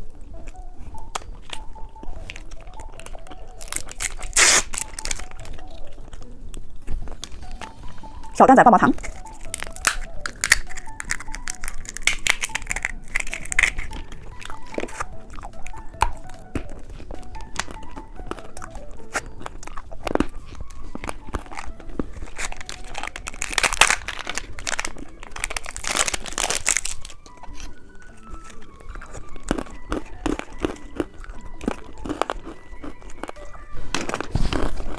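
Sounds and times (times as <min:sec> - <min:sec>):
candy crunching: 0:00.0 - 0:34.9
quiet background music: 0:00.0 - 0:34.9
wrapper crinkling: 0:01.5 - 0:06.3, 0:06.9 - 0:16.6, 0:17.5 - 0:34.9.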